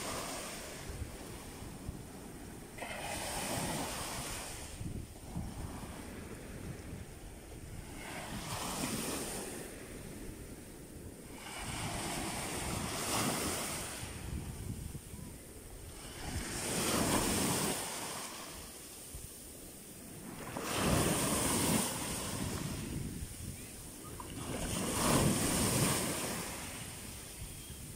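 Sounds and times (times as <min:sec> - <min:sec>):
waves breaking on shore: 0:00.0 - 0:27.9
wind rumbling on microphone: 0:00.0 - 0:27.9.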